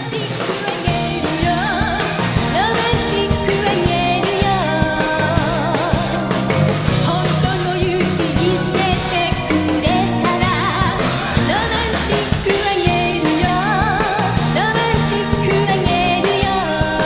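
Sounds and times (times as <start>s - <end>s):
drum kit: 0.0s - 17.0s
electric guitar: 0.0s - 17.0s
woman singing into a microphone: 0.0s - 17.0s.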